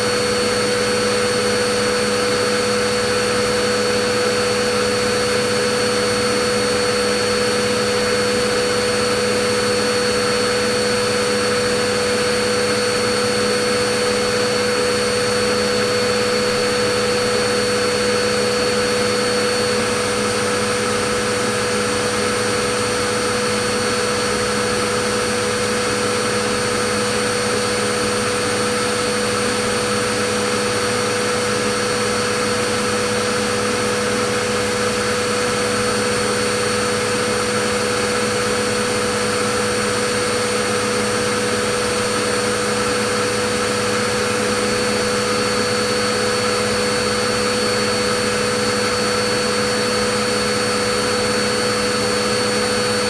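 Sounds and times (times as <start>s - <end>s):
vacuum cleaner motor running: 0.0s - 53.0s.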